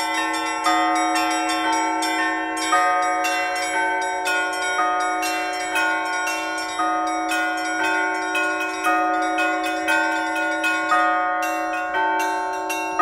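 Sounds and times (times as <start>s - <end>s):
church bells ringing: 0.0s - 13.0s
deep bell humming: 0.0s - 13.0s.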